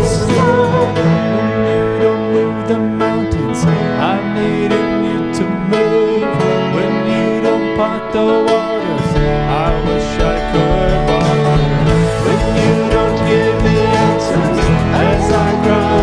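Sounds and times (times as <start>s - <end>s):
sliding melody notes: 0.0s - 9.6s, 10.4s - 16.0s
music with held chords: 0.0s - 16.0s.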